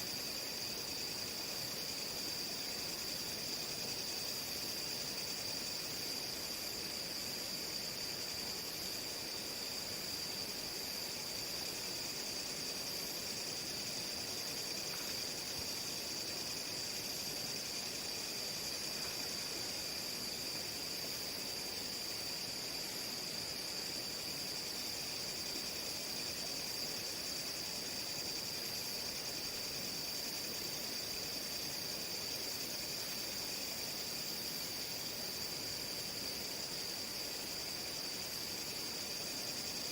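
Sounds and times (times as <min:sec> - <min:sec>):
crickets shrilling: 0:00.0 - 0:39.9.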